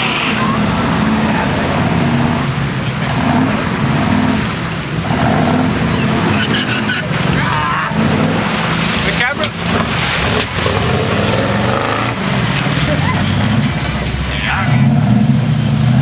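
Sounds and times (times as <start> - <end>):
mud and water splashing: 0.0 - 16.0
truck engine revving: 0.0 - 16.0.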